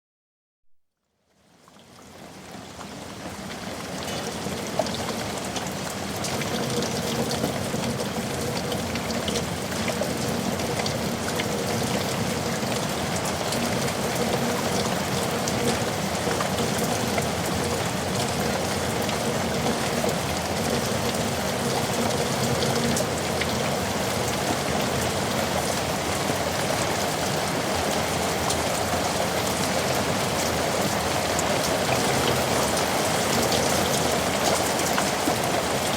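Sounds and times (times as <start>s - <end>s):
heavy rain: 1.5s - 35.9s.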